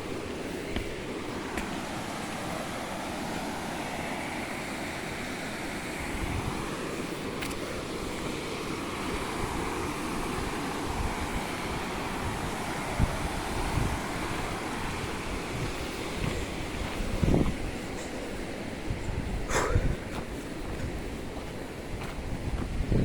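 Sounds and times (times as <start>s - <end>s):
steady rushing hiss: 0.0s - 23.0s
wind buffeting microphone: 0.0s - 23.0s.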